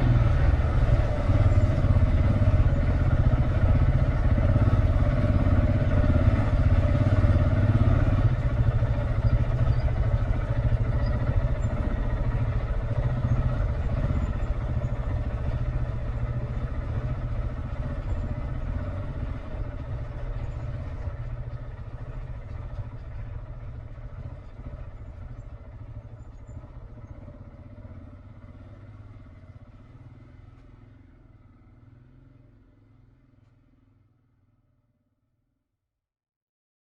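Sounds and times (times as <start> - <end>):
motorcycle engine running: 0.0 - 34.6.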